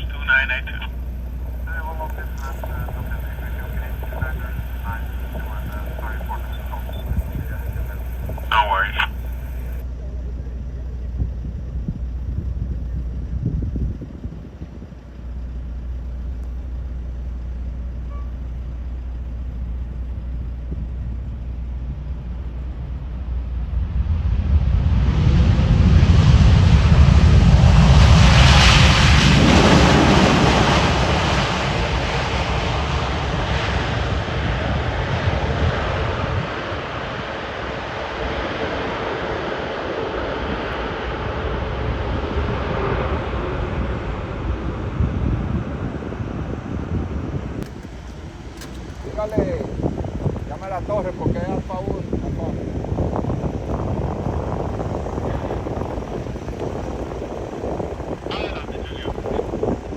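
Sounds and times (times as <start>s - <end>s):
wind noise on microphone: 0.0s - 9.8s, 11.2s - 15.1s, 23.6s - 59.9s
jet airliner passing: 0.0s - 10.3s, 21.2s - 59.9s.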